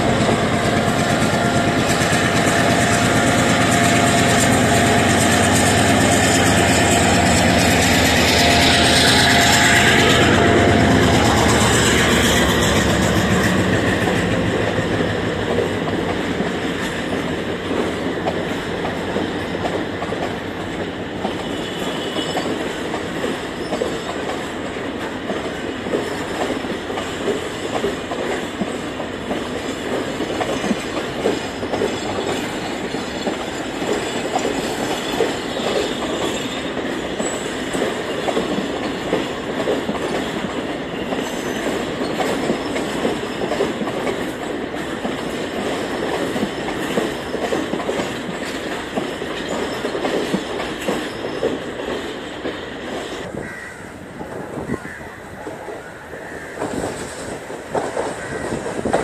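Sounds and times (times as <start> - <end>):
diesel locomotive engine: 0.0 - 59.0
train wheels clacking over rail joints: 0.0 - 59.0.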